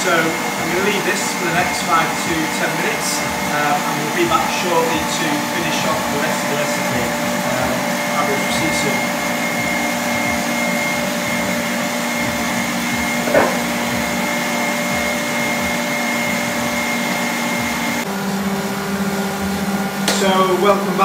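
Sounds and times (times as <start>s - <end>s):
stand mixer motor hum: 0.0s - 21.0s.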